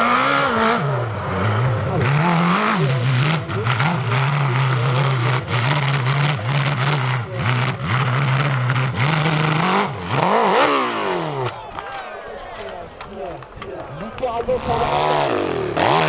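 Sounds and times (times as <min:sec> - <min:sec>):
motorcycle engine revving: 0:00.0 - 0:11.7, 0:14.2 - 0:16.0.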